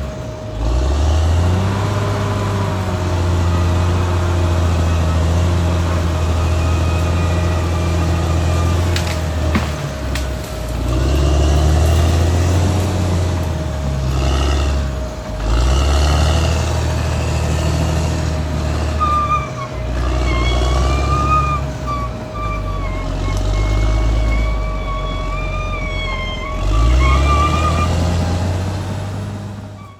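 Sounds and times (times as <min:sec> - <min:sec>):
bulldozer diesel engine drone: 0:00.0 - 0:29.9
high squeals: 0:00.0 - 0:29.9.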